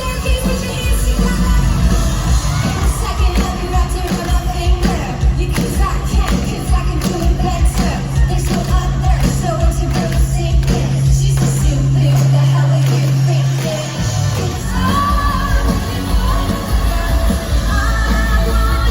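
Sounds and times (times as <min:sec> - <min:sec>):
bass-heavy backing track: 0:00.0 - 0:18.9.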